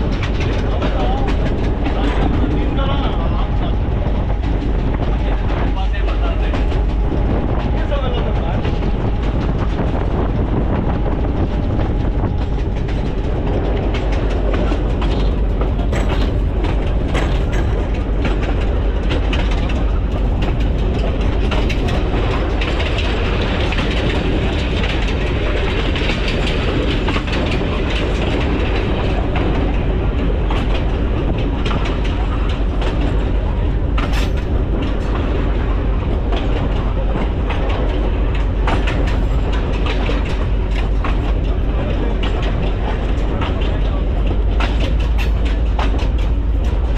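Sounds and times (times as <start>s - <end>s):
locomotive engine drone: 0.0s - 46.9s
wheels clacking over rail joints: 0.0s - 46.9s.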